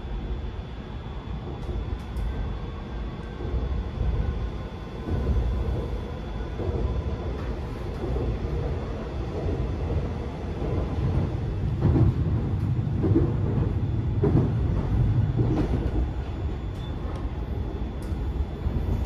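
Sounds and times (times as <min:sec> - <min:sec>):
train wheels rumbling: 0:01.1 - 0:19.0.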